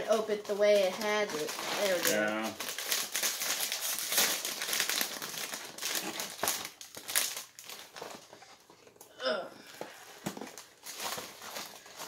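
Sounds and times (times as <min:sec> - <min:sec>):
plastic bag crinkling: 0:00.0 - 0:09.0, 0:10.1 - 0:12.0.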